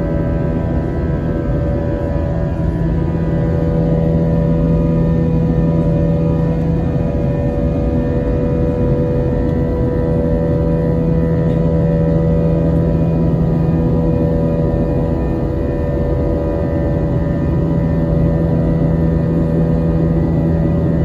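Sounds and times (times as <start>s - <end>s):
jet engine drone: 0.0s - 21.0s
steady humming tones: 0.0s - 21.0s.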